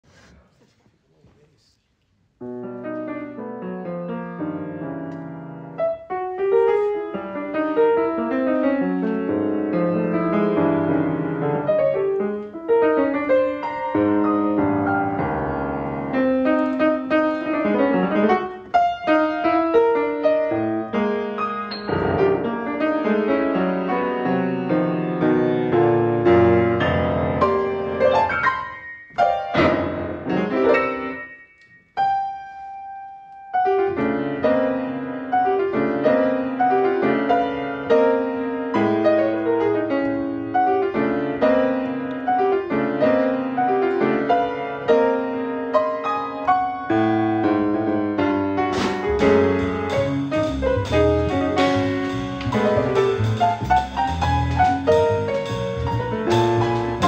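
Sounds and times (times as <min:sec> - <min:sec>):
jazz piano playing: 0:02.4 - 0:57.0.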